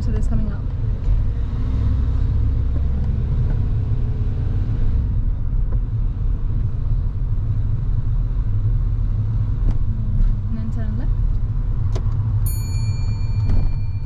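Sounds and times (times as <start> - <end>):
faint engine hum: 0.0 - 14.0
road and engine rumble inside car: 0.0 - 14.0.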